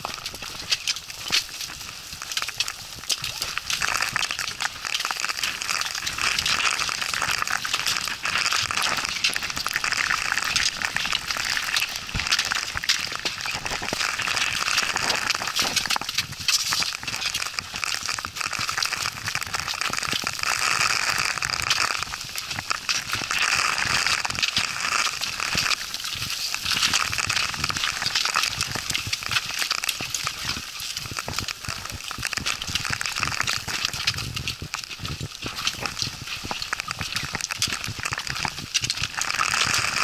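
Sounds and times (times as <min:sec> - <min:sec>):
snow pattering on jackets: 0:00.0 - 0:40.0.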